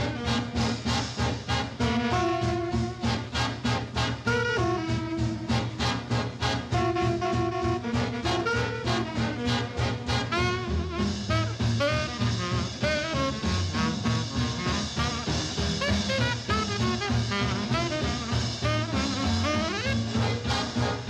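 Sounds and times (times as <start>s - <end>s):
swing jazz music: 0.0s - 21.0s.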